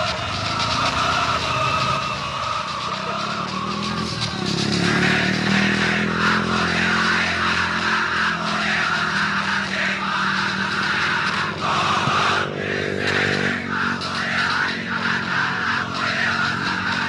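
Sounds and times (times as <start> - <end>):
steady rushing noise: 0.0 - 17.0
vehicle engine running: 0.0 - 17.0.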